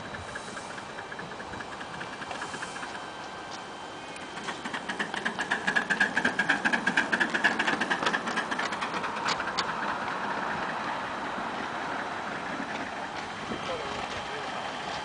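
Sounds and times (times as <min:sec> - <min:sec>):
cars rolling on track: 0:00.0 - 0:15.0
steam locomotive exhaust beating: 0:00.0 - 0:15.0.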